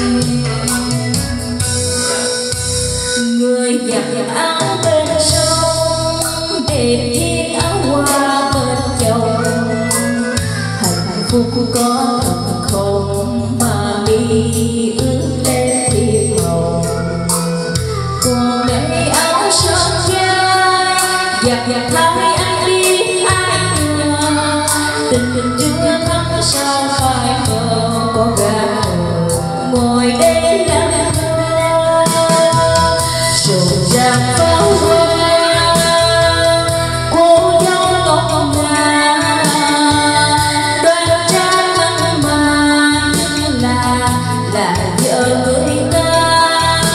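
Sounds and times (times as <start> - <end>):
karaoke backing track: 0.0 - 46.9
woman singing into microphone: 0.0 - 46.9.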